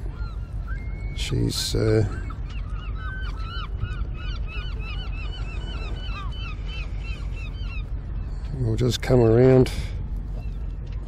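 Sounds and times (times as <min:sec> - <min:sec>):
steady low rumble: 0:00.0 - 0:01.2, 0:01.8 - 0:11.0
gulls calling: 0:00.0 - 0:11.0.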